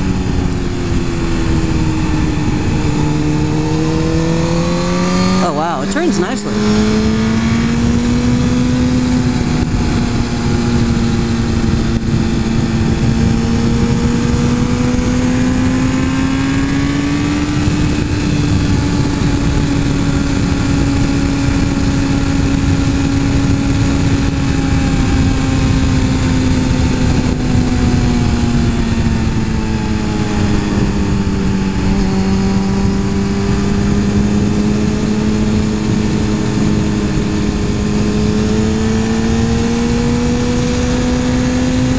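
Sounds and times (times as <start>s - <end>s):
motorcycle engine running: 6.5s - 41.9s.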